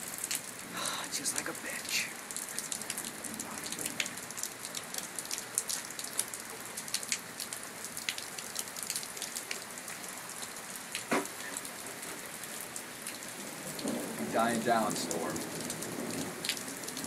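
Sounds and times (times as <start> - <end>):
rain falling: 0.0 - 17.0
raindrops splatting on hard surfaces: 0.0 - 17.0.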